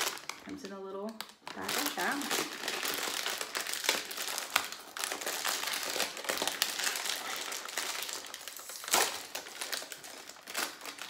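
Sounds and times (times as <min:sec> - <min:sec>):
cookie bag rustling: 0:00.0 - 0:11.0.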